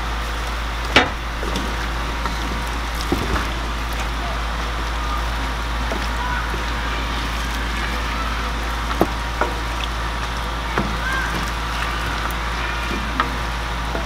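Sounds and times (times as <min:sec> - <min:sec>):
low hum: 0:00.9 - 0:14.0
food frying sizzle: 0:01.2 - 0:14.0.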